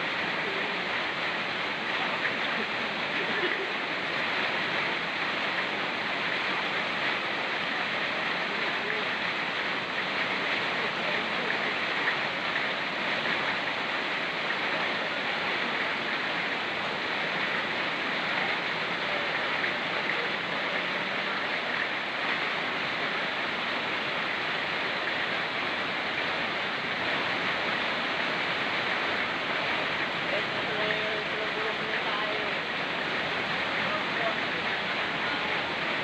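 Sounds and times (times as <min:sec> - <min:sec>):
fast-flowing river: 0:00.0 - 0:36.0
rain falling: 0:00.0 - 0:36.0.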